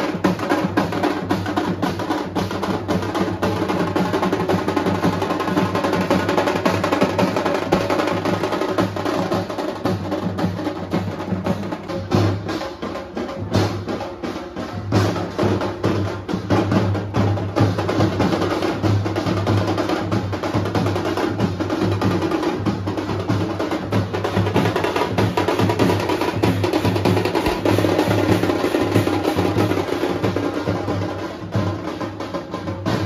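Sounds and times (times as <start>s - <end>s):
drum band playing: 0.0s - 33.0s.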